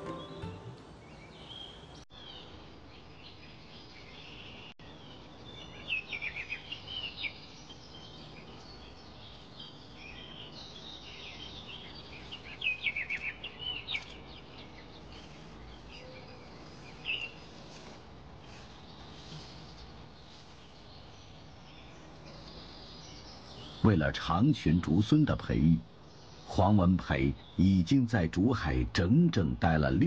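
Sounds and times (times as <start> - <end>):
high falling bird chirps: 0.0 - 30.0.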